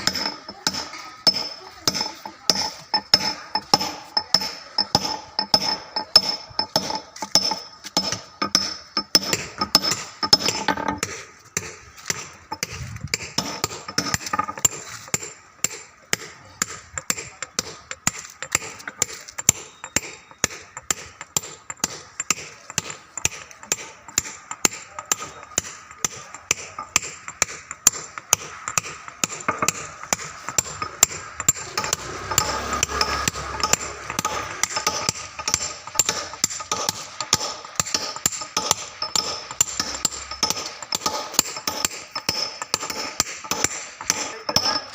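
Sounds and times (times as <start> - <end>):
hammer striking chisel on stone: 0.0 - 44.9.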